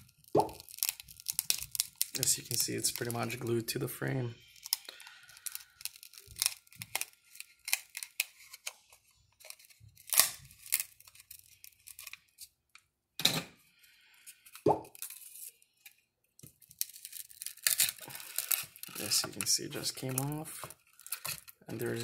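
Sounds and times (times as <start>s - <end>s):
adhesive crackling and tearing: 0.0s - 3.8s, 4.4s - 12.6s, 14.3s - 22.0s.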